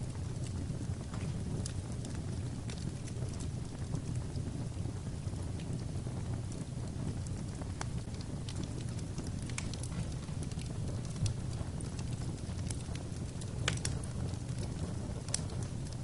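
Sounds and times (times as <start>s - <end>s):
fire crackling and popping: 0.0s - 16.0s
fire rumbling in a fireplace: 0.0s - 16.0s.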